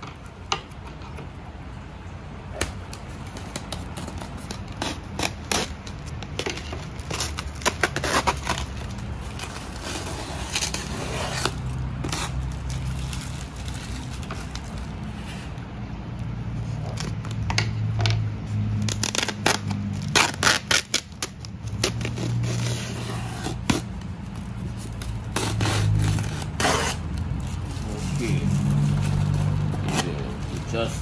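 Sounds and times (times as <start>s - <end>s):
tape and cardboard scraping: 2.5s - 31.0s.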